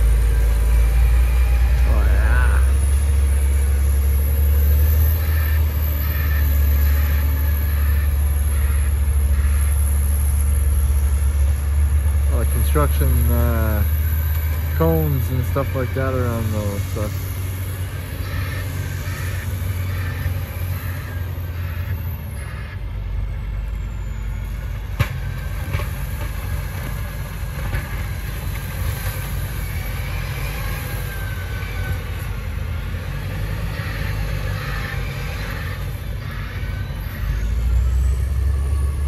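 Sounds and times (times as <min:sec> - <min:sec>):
tractor engine rumbling: 0:00.0 - 0:39.0.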